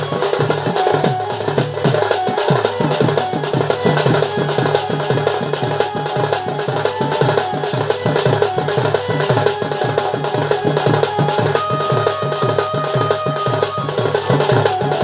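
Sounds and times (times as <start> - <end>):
folk drum ensemble: 0.0 - 15.0
held melodic note: 0.0 - 15.0.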